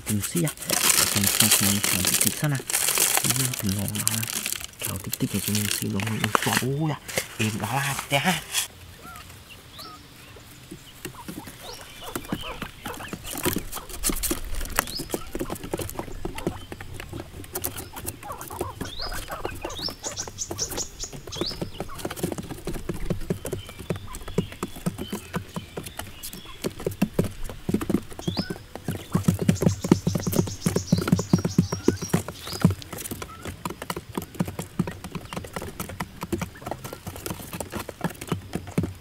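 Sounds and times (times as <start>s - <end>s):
quail pecking and scratching: 0.0s - 39.0s.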